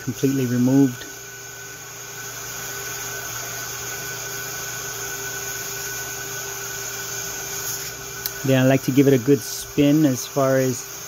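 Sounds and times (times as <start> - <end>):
vacuum humming: 0.0 - 11.0.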